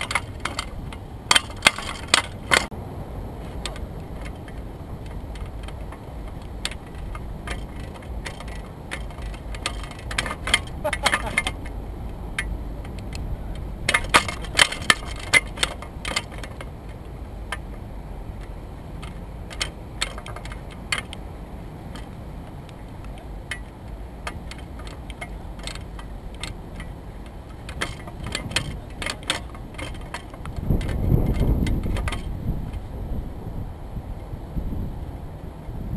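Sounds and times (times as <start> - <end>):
light clicks and rattles: 0.0 - 2.7, 3.4 - 32.9
wind rumble on microphone: 0.0 - 35.9.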